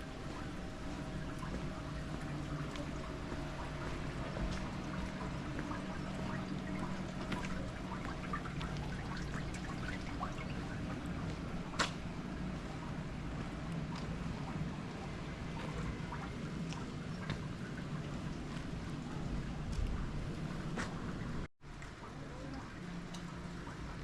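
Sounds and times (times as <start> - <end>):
faint low hum: 0.0 - 24.0
small drips ticking: 0.0 - 24.0
water running and trickling: 0.0 - 24.0.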